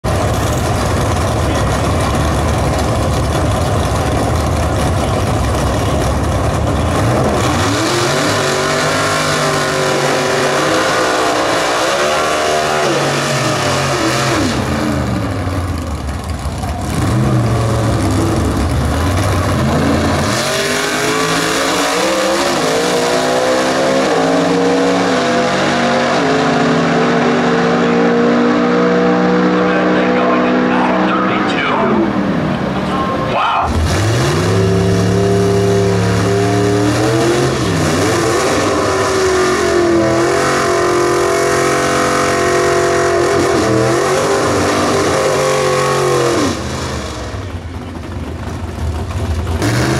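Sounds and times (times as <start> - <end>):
drag car engine revving: 0.0 - 49.9.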